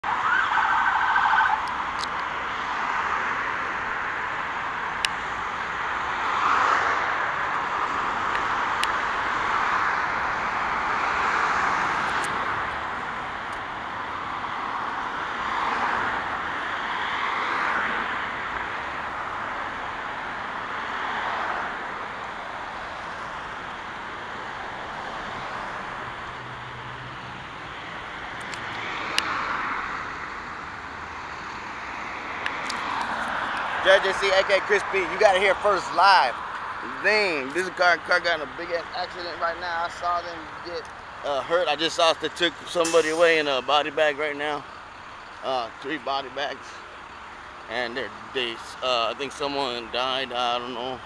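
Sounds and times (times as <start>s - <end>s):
cars passing: 0.0s - 51.0s.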